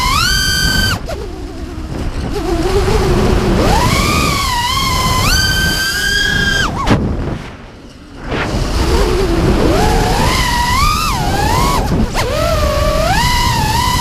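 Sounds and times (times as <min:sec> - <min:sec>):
quadcopter motors whining: 0:00.0 - 0:14.0
wind rush on microphone: 0:00.0 - 0:14.0.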